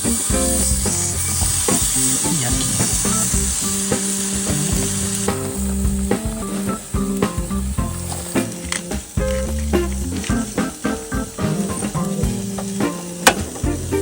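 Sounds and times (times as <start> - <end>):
background music: 0.0 - 14.0
meat sizzling: 0.0 - 14.0.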